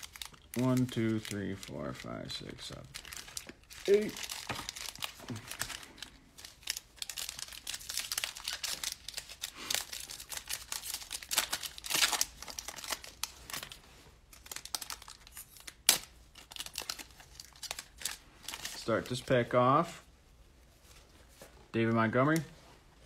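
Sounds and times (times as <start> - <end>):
foil wrapper crinkling: 0.0 - 19.4.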